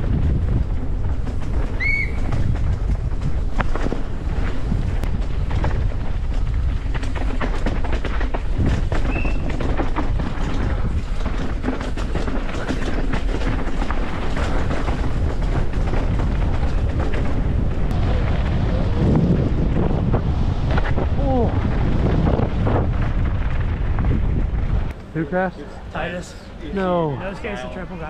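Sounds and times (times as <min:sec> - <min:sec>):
wind noise: 0:00.0 - 0:25.0
bike rattling over rough ground: 0:00.0 - 0:26.1.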